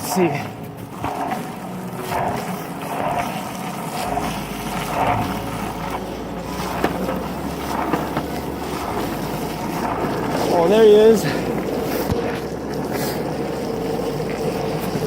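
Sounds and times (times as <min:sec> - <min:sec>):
longboard wheels rumbling: 0:00.0 - 0:15.0.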